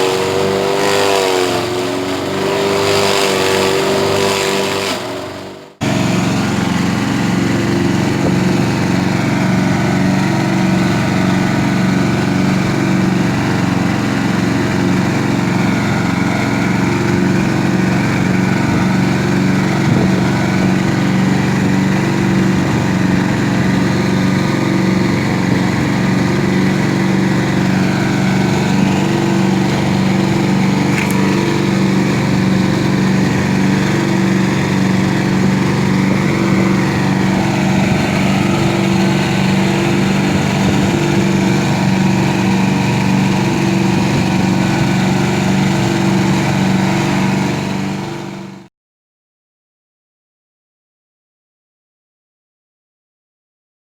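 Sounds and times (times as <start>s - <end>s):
small engine running steadily: 0.0s - 48.7s.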